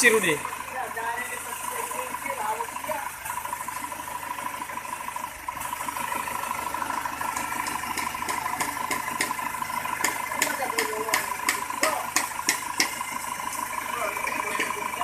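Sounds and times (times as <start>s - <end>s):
diesel engine running: 0.0s - 15.0s
sharp engine ticks: 0.0s - 15.0s.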